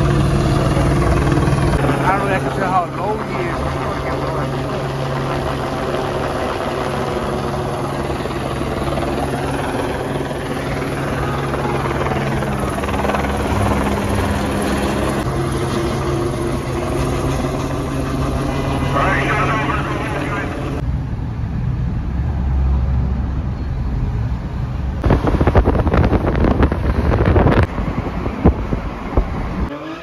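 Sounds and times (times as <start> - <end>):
helicopter hovering: 0.0 - 22.4, 24.4 - 30.0.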